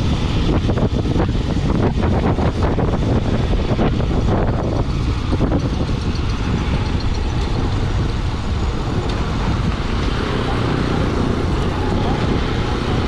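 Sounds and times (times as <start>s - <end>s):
motorcycle engine cruising: 0.0s - 13.0s
road noise: 0.0s - 13.0s
wind buffeting microphone: 0.0s - 13.0s.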